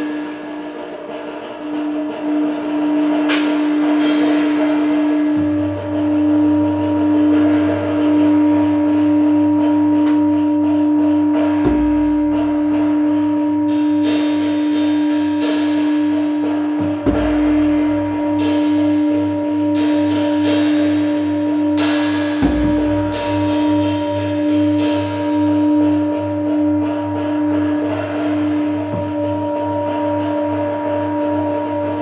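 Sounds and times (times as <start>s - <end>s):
bright metallic struck sounds: 0.0s - 32.0s
low pulsing didgeridoo drone: 0.0s - 32.0s.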